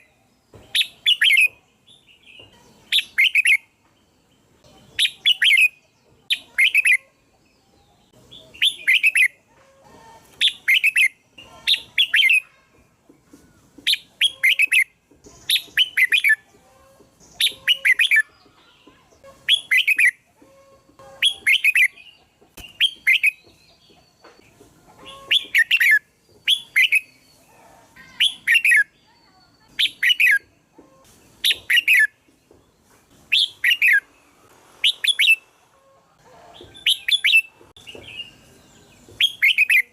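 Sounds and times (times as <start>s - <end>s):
bulbul singing: 0.0s - 9.4s, 10.3s - 12.6s, 13.6s - 34.1s, 34.8s - 35.5s, 36.5s - 39.9s.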